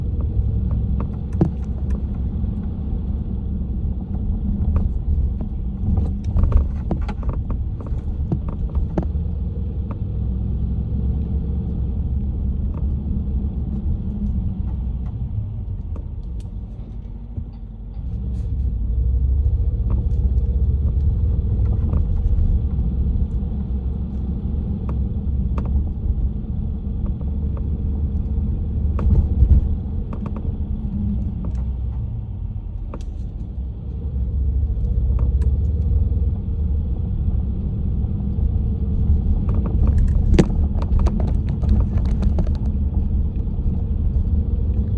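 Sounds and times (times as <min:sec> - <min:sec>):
low rumble of moving car: 0:00.0 - 0:44.9.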